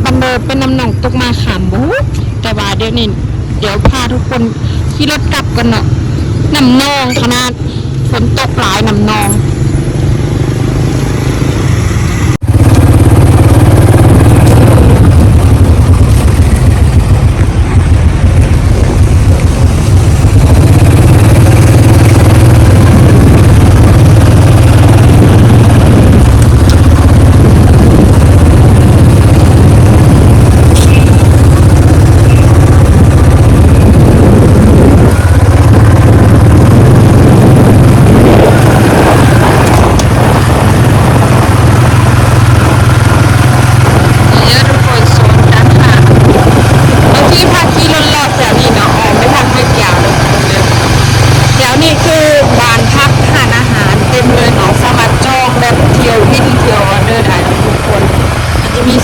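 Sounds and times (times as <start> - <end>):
motorbike engine: 0.0 - 59.0.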